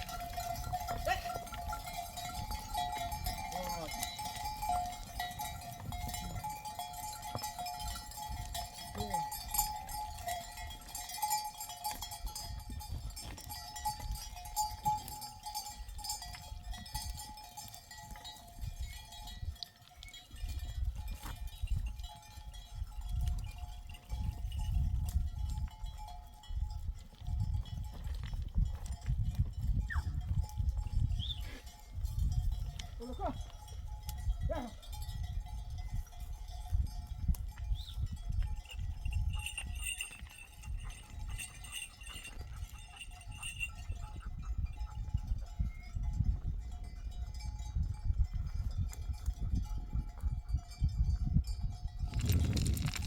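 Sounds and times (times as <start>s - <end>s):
sheep bells clinking: 0.0s - 53.0s.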